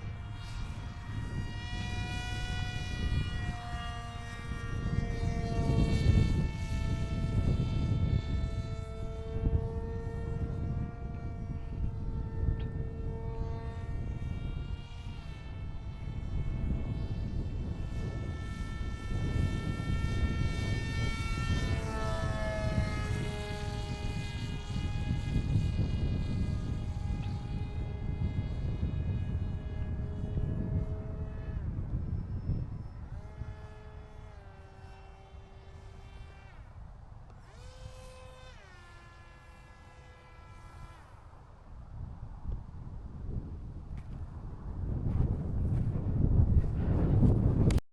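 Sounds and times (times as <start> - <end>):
electric motor whine: 0.0 - 47.8.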